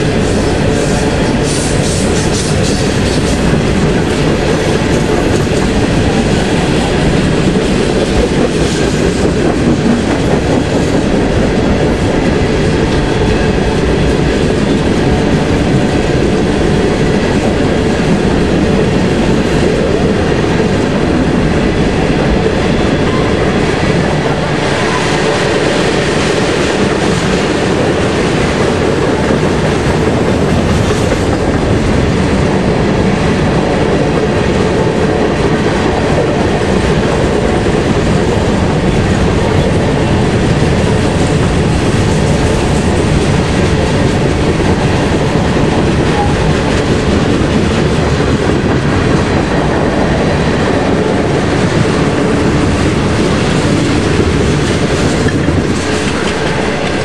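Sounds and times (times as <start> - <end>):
train wheels clattering over rails: 0.0 - 57.0.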